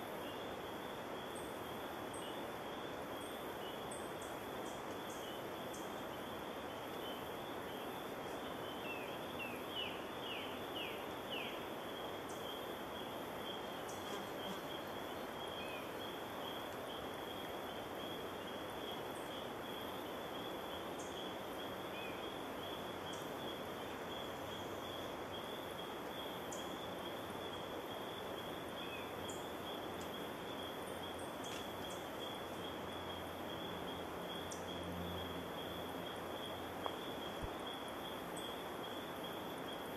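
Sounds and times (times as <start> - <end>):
faint hiss: 0.0 - 39.9
high insect buzz: 3.1 - 39.9.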